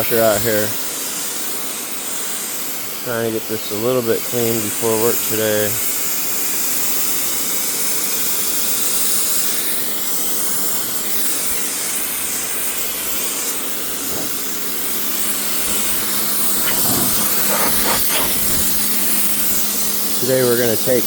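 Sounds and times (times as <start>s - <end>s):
pressure washer spraying concrete: 0.0s - 21.0s.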